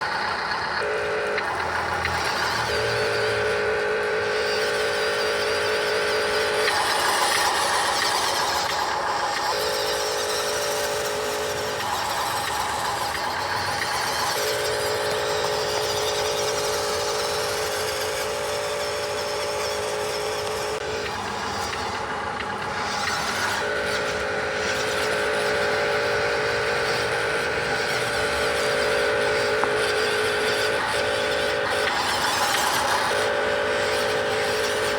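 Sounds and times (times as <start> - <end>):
noisy background: 0.0 - 34.9
radio-controlled truck whine: 0.0 - 34.9.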